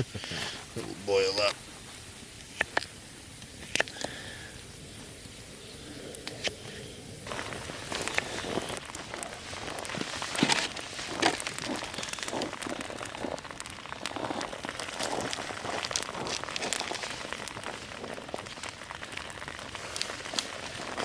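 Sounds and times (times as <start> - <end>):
campfire crackling and sizzling: 0.0 - 21.0
fire snapping: 0.0 - 21.0.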